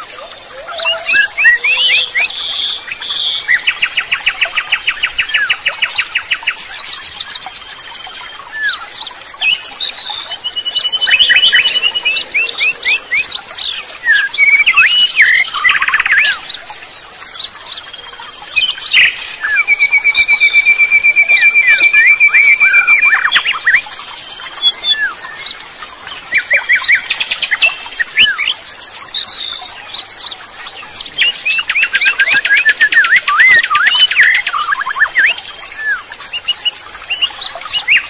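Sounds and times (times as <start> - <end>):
songbirds singing: 0.0 - 38.0.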